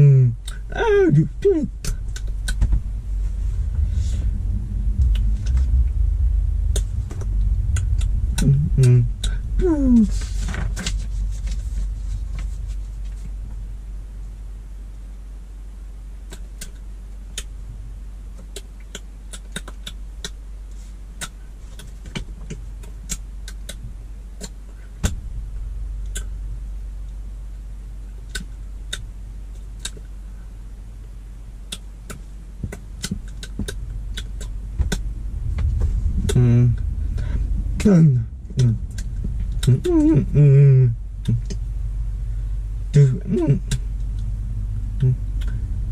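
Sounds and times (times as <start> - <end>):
car cabin rumble: 0.0 - 14.9, 21.3 - 30.2, 31.0 - 45.9.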